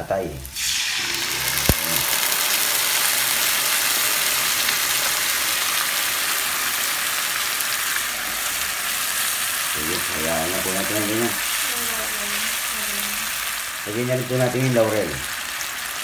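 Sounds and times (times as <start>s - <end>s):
meat sizzling in a pan: 0.4s - 16.0s.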